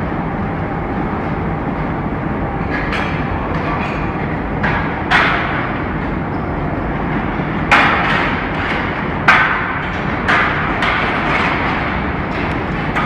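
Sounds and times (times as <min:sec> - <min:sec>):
factory machinery running: 0:00.0 - 0:13.0.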